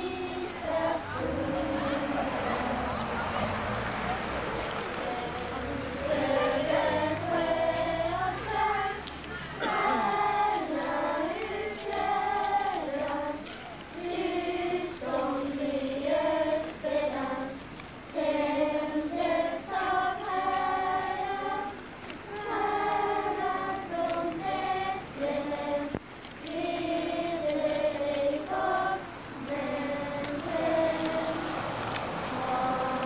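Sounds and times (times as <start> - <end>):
girls choir singing: 0.0 - 33.0.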